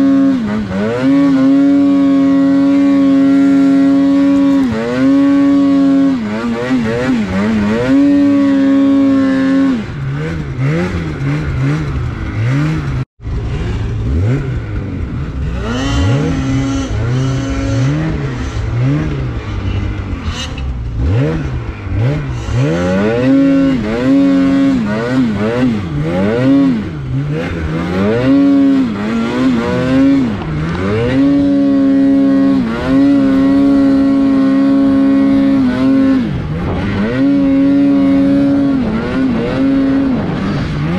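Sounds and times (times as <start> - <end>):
snowmobile engine revving: 0.0 - 40.9.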